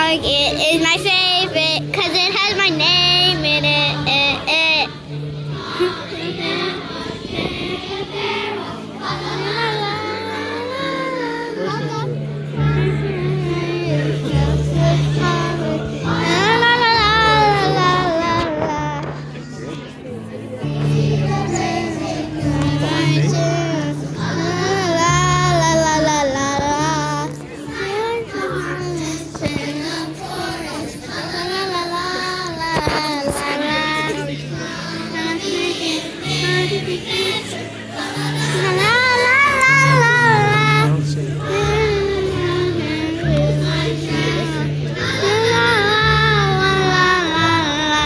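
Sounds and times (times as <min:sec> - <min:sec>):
person singing long notes: 0:01.4 - 0:19.3, 0:20.6 - 0:48.0.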